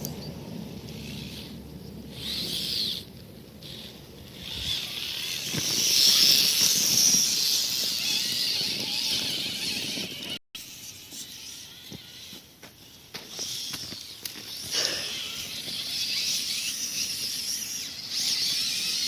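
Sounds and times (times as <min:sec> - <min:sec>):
electric motor and gears whining: 0:00.0 - 0:19.0.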